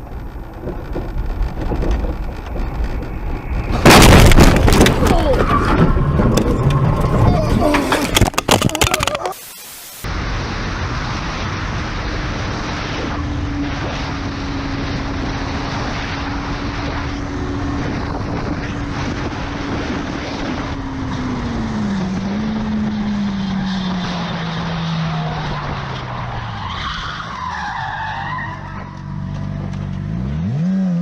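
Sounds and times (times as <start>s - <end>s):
car engine hum: 0.0s - 9.4s, 11.6s - 31.0s
road and wind noise: 0.0s - 31.0s.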